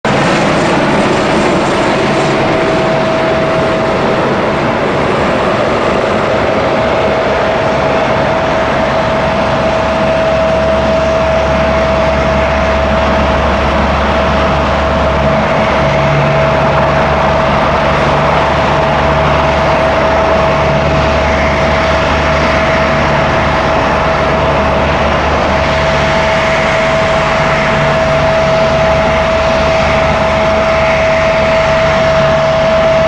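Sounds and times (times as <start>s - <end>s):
deep hum: 0.0s - 33.0s
helicopter rotor and engine: 0.0s - 33.0s.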